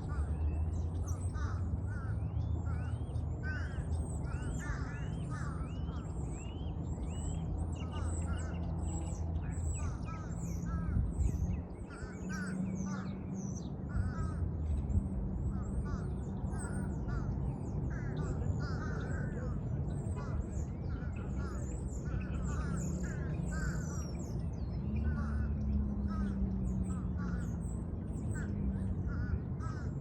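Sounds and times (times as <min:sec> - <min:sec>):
birds chirping and calling: 0:00.0 - 0:30.0.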